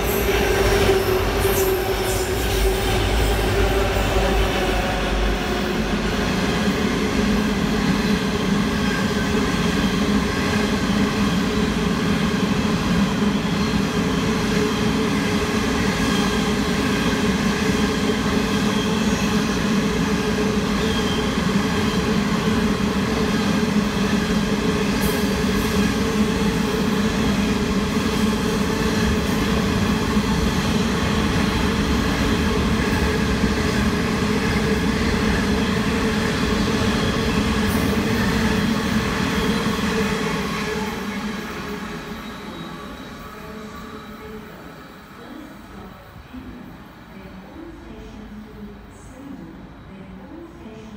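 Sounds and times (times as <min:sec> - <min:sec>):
electric train rumble and hum: 0:00.0 - 0:46.0.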